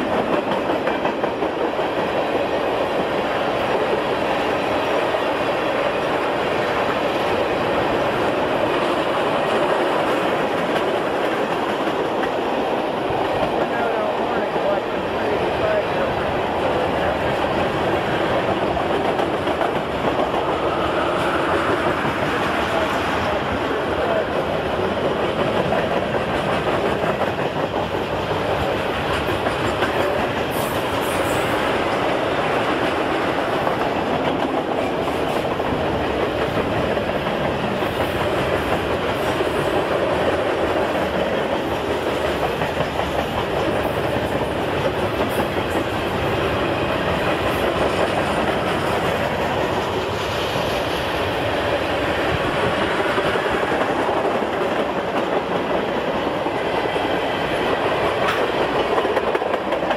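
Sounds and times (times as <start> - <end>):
train cars clickety-clack: 0.0 - 59.9.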